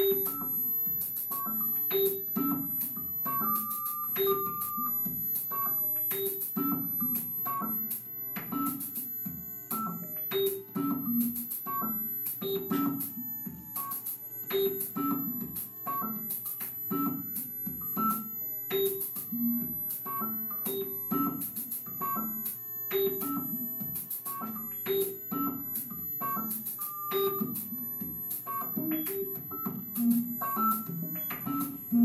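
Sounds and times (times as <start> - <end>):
electronic music with clicking beat: 0.0 - 32.0.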